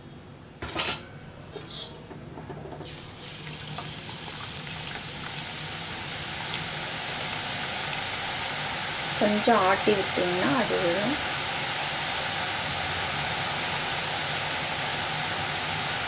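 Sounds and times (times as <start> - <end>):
batter sizzling in hot oil: 2.8 - 16.0.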